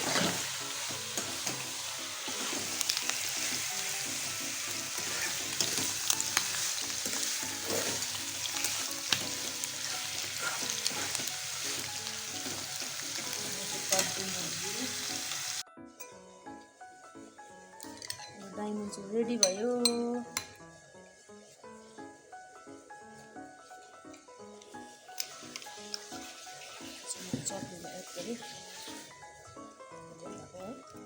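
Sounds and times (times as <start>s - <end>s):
hot oil sizzling in a pan: 0.0s - 15.6s, 20.5s - 30.2s.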